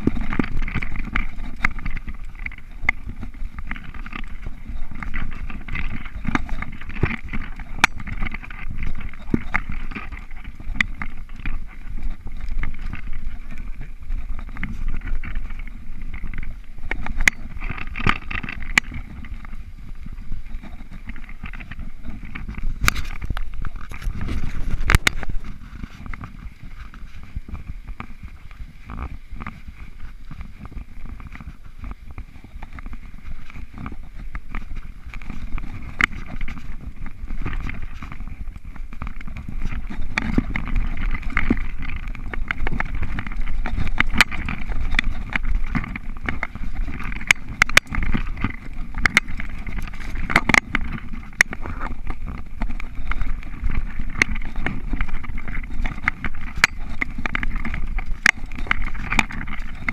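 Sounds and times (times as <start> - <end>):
bike rattling and knocking: 0.0 - 59.9
wheels on wooden planks: 0.0 - 59.9
wind and trail rumble: 0.0 - 59.9.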